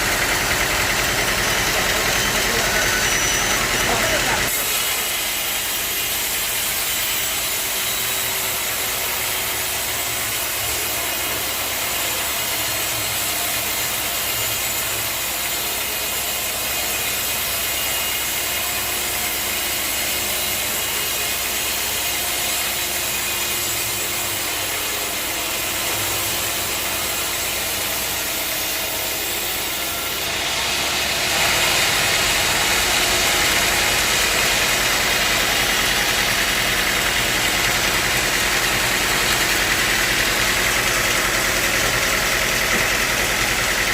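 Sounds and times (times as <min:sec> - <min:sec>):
sawmill machinery hiss: 0:00.0 - 0:43.9.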